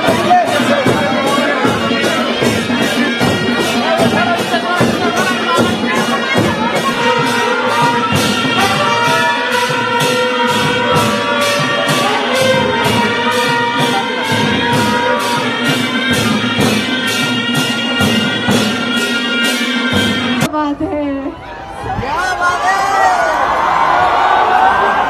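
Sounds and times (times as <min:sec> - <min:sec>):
percussion beat: 0:00.0 - 0:21.3.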